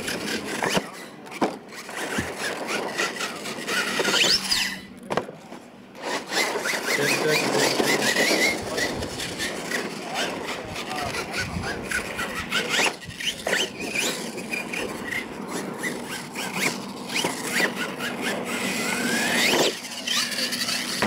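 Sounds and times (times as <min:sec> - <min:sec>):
electric motor whining: 0:00.0 - 0:05.0, 0:05.9 - 0:21.0
tyres on loose dirt: 0:00.0 - 0:21.0.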